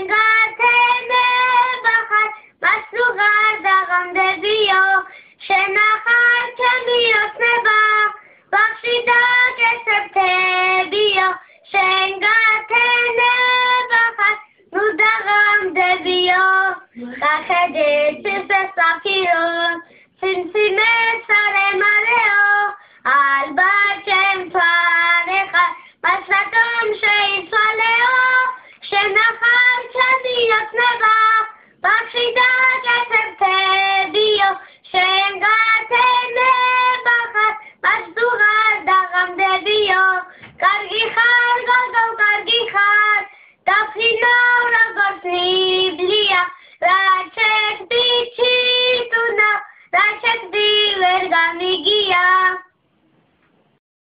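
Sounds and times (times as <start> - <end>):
child singing: 0.0 - 52.8.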